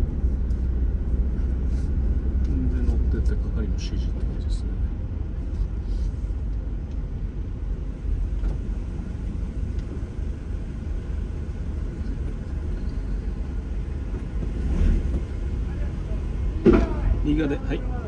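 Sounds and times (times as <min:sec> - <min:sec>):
diesel engine low rumble: 0:00.0 - 0:18.0.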